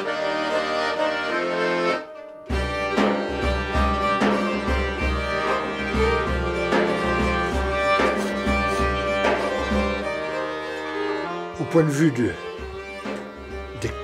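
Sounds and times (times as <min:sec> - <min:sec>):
instrumental music with low beat: 0:00.0 - 0:14.0.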